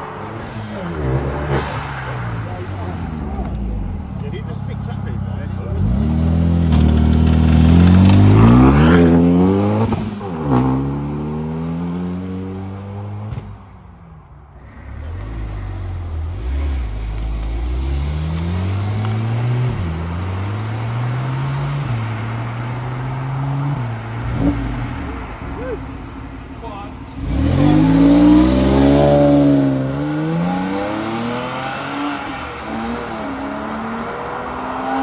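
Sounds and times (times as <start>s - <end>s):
second car pulling away: 0.0s - 13.3s, 14.3s - 35.0s
sports car accelerating hard: 0.0s - 13.6s, 14.6s - 35.0s.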